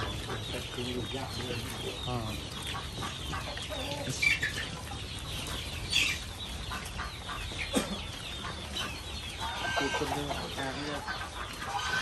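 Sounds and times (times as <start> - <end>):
chickens clucking: 0.0 - 12.0
piglets chewing and rustling: 0.0 - 12.0.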